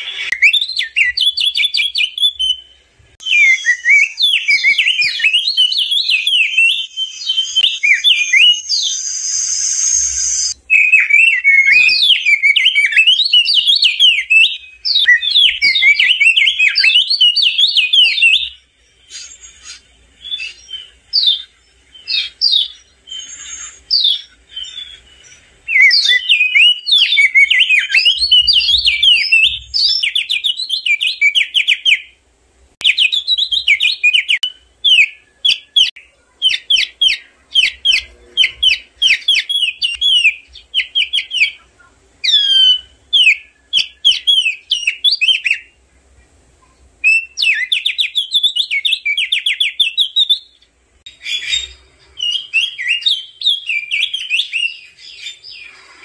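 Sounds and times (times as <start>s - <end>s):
bird singing chirps and trills: 0.0s - 32.2s, 32.8s - 45.8s, 46.6s - 56.0s.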